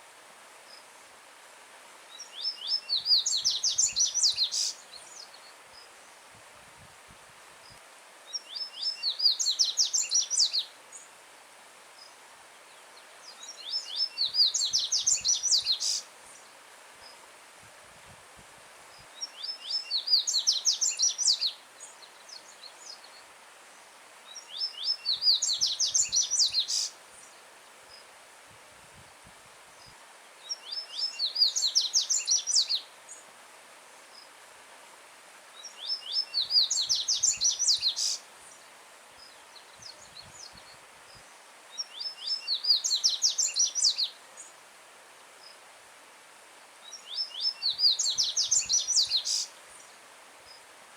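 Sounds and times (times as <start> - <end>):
stream rushing faintly: 0.0 - 50.9.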